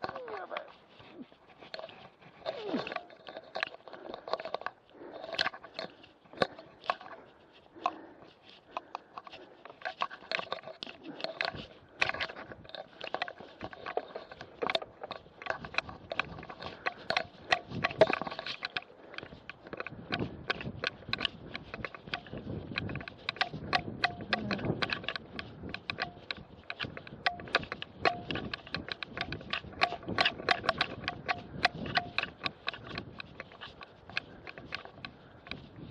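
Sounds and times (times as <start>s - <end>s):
bicycle rattling over bumpy ground: 0.0s - 35.9s.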